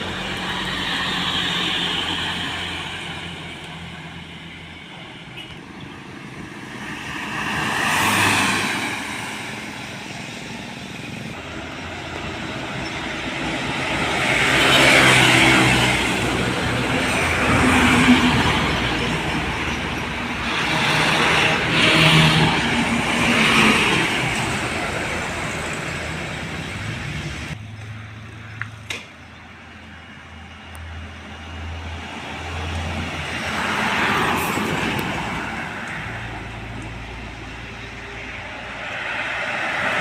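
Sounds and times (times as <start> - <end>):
trucks passing on road: 0.0 - 40.0.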